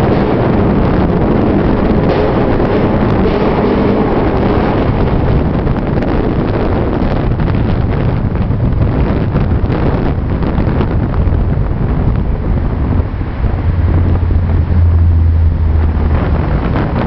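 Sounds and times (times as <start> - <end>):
car engine: 0.0 - 17.0
wind buffeting microphone: 0.0 - 17.0.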